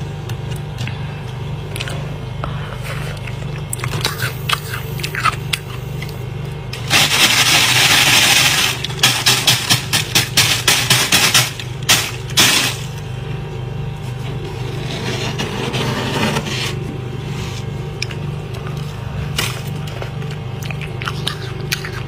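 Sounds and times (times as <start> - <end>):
freezer hum: 0.0 - 22.0.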